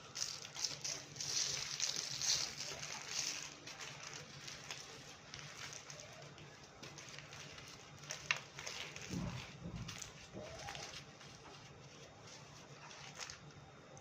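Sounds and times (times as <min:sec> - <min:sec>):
dry clay crumbling: 0:00.0 - 0:13.5.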